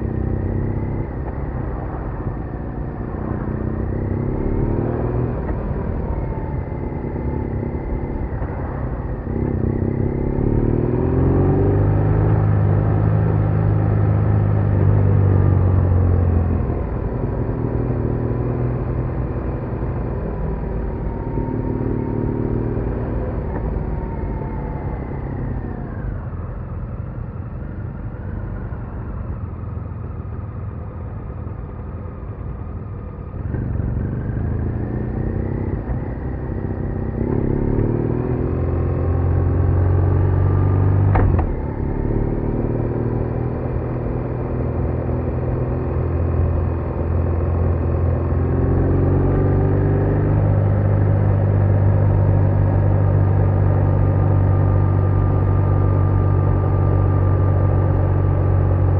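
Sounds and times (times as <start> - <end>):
motorcycle engine accelerating: 0.0 - 31.7, 32.6 - 58.9.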